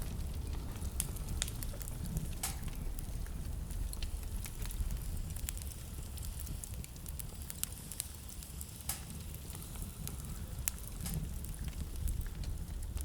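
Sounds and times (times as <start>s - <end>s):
sharp pops and snaps: 0.0s - 13.0s
wood fire crackling: 0.0s - 13.0s.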